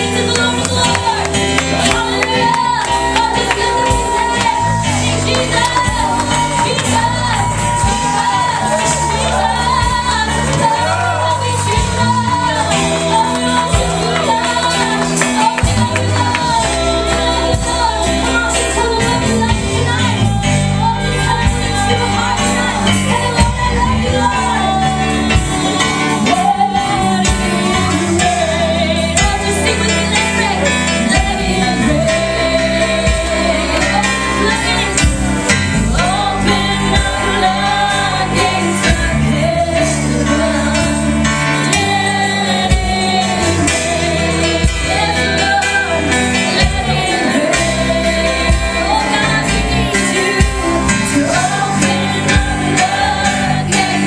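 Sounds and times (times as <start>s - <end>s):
band with bass and drums: 0.0s - 54.0s
women singing: 0.0s - 54.0s.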